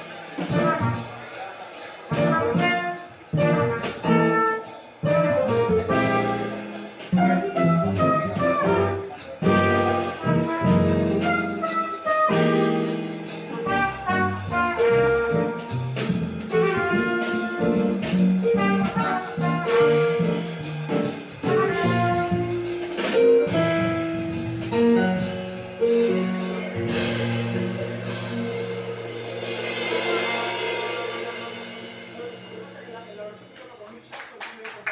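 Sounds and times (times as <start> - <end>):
drum kit with cymbals: 0.0 - 34.0
upright bass: 0.4 - 1.2, 2.1 - 31.9
trumpet melody: 2.1 - 31.4.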